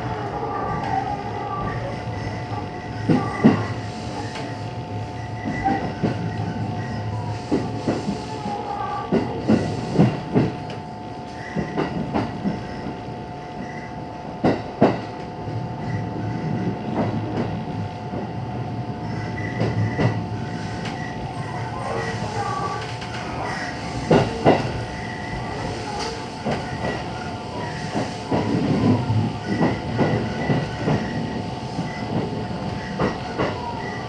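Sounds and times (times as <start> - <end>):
steady train hum: 0.0 - 34.0
train wheels clicking over rail joints: 2.2 - 8.3, 9.1 - 18.3, 19.0 - 34.0.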